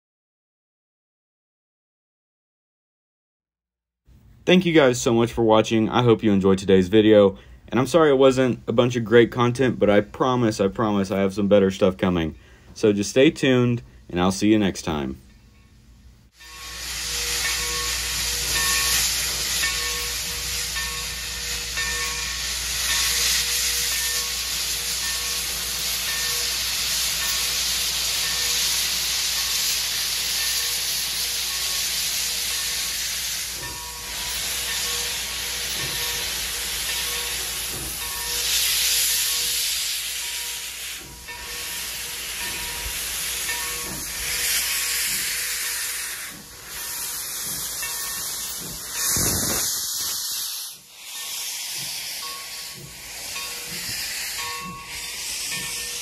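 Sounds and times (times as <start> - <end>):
steam locomotive hissing steam: 4.6 - 15.2, 16.3 - 56.0.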